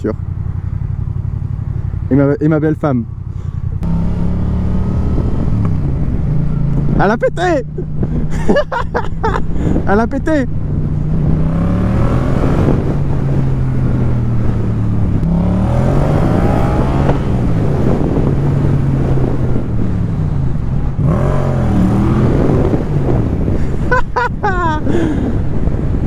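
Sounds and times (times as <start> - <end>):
motorcycle engine revving: 0.0 - 25.2.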